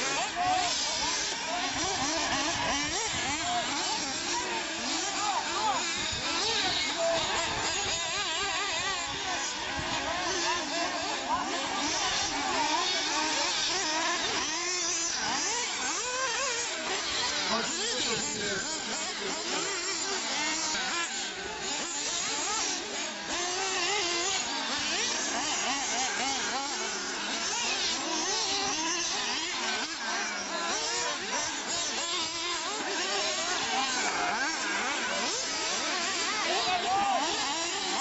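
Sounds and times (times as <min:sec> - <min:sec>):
rc buggy motors whining: 0:00.0 - 0:38.0.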